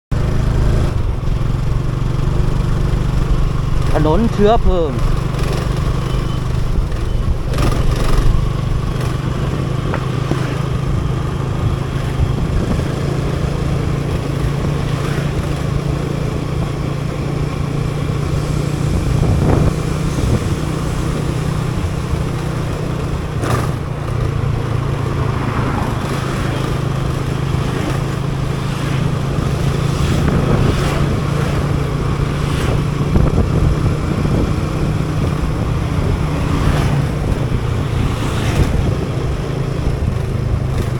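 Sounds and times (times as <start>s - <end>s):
motorcycle engine running: 0.1s - 40.9s
road and wind noise: 0.1s - 40.9s.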